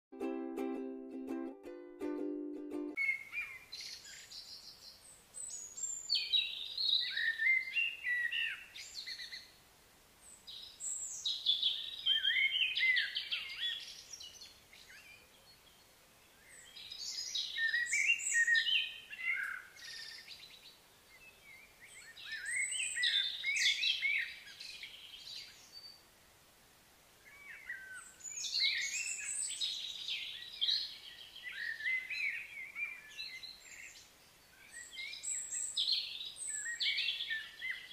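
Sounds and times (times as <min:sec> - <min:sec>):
songbird singing: 0:00.2 - 0:09.6, 0:10.2 - 0:26.2, 0:27.2 - 0:37.9.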